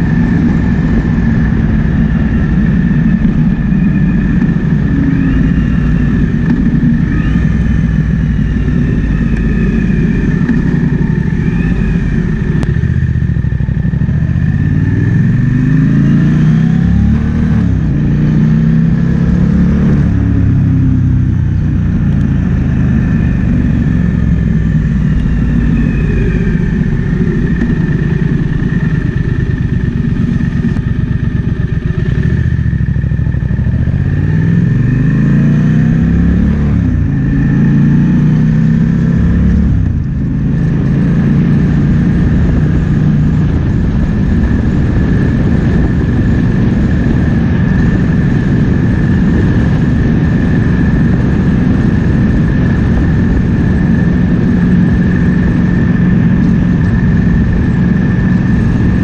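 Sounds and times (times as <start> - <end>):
motorcycle engine accelerating: 0.0 - 59.0
wind rushing over microphone: 0.0 - 59.0.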